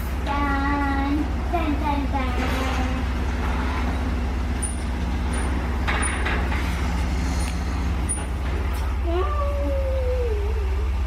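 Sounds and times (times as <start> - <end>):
road vehicle rumbling: 0.0 - 11.0.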